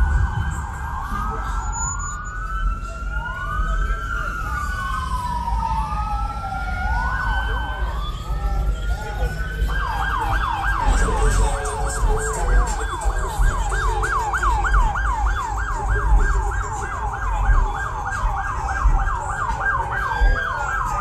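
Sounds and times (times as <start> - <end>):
low engine rumble: 0.0 - 21.0
police siren yelping: 0.0 - 21.0.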